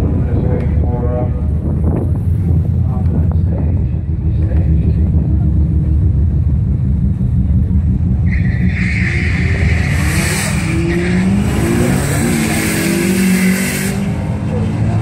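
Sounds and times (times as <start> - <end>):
car engines rumbling: 0.0 - 15.0
engine revving: 2.4 - 15.0.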